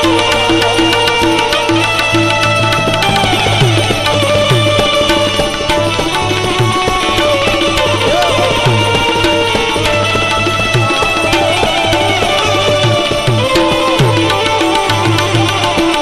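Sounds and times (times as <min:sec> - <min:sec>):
sustained melodic lines: 0:00.0 - 0:16.0
tabla drum strokes bending down: 0:00.0 - 0:16.0.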